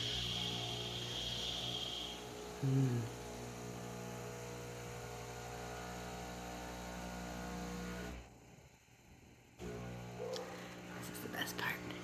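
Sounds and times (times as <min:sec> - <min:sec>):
coffee machine humming: 0:00.0 - 0:12.0.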